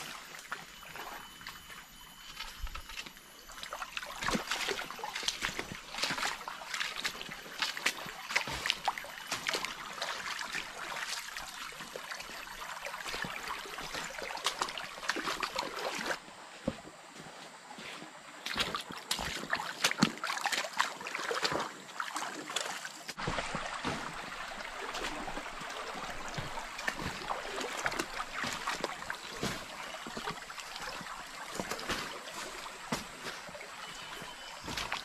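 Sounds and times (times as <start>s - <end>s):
shallow stream trickling over stones: 0.0s - 16.2s, 18.1s - 35.0s.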